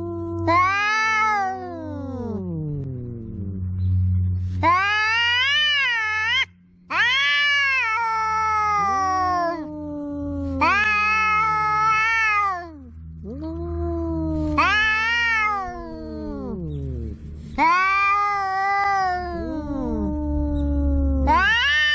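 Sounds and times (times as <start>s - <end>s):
cats yowling: 0.0s - 21.9s.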